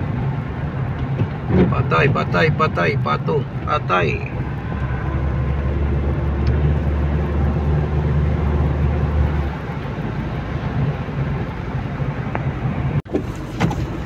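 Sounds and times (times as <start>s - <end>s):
engine and tyre drone: 0.0s - 14.0s.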